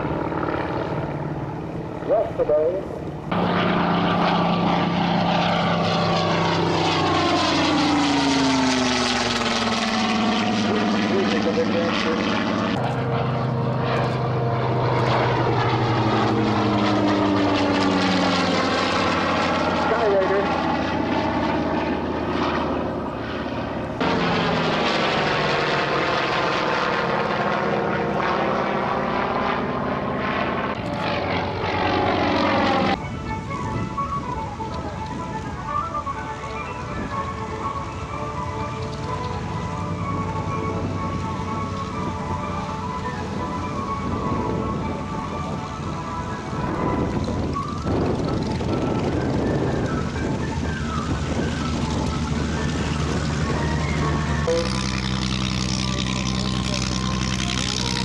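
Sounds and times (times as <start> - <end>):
propeller aircraft flying past: 0.0 - 58.0.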